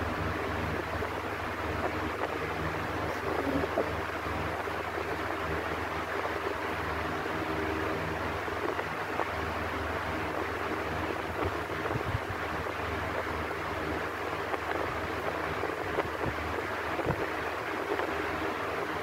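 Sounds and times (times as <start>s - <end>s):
electric fan running: 0.0s - 19.0s.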